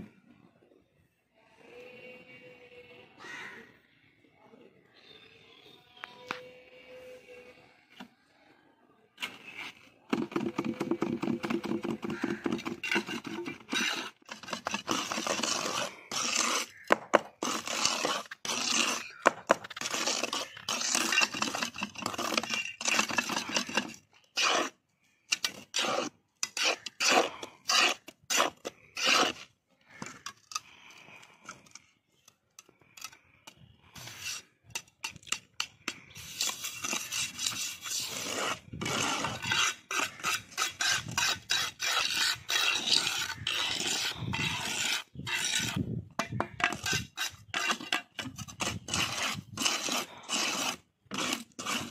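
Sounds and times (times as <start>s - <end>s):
trowel scraping wet cement: 9.2s - 32.2s, 32.9s - 51.9s.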